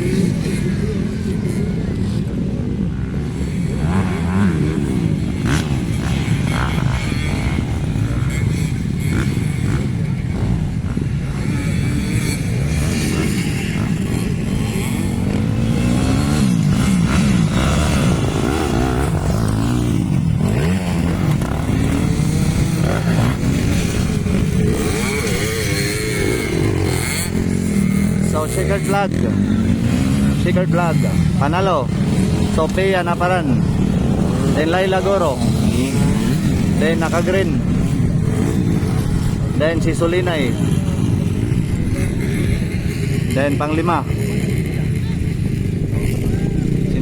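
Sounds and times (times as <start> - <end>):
motocross bikes revving: 0.0 - 47.0.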